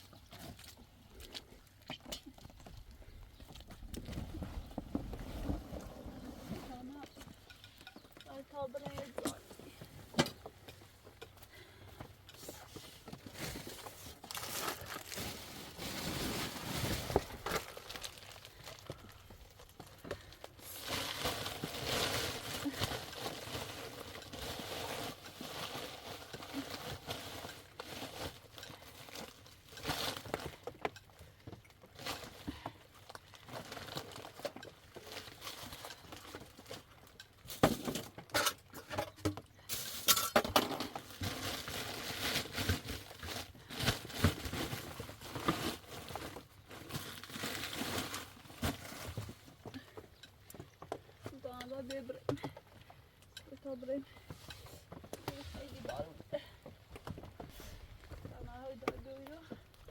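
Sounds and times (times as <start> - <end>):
crinkling and rustling: 0.0 - 59.9.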